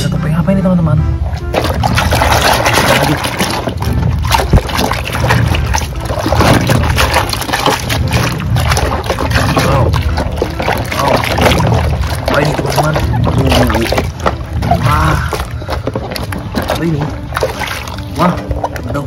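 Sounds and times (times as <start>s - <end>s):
water splashes: 1.0s - 19.0s
hand scrubbing in soapy water: 1.2s - 19.0s.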